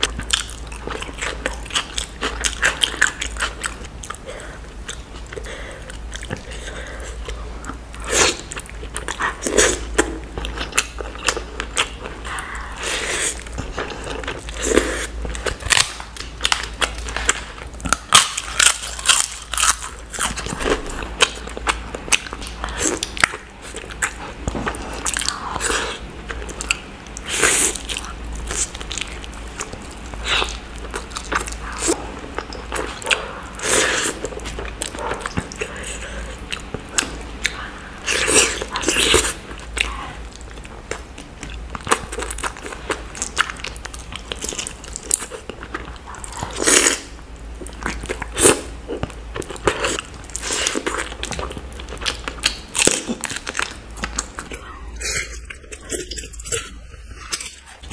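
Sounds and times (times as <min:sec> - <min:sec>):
faint low hum: 0:00.0 - 0:57.9
person chewing and biting: 0:00.0 - 0:57.9.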